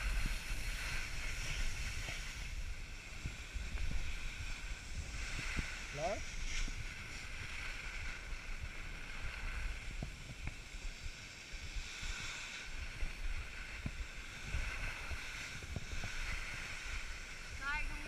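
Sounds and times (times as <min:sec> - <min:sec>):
skis hissing on packed snow: 0:00.0 - 0:18.0
wind buffeting microphone: 0:00.0 - 0:18.0.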